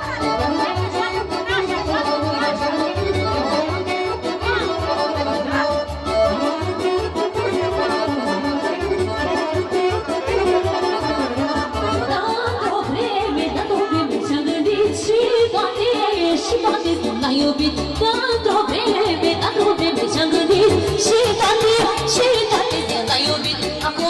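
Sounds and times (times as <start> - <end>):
accordion: 0.0 - 24.0
folk dance band music: 0.0 - 24.0.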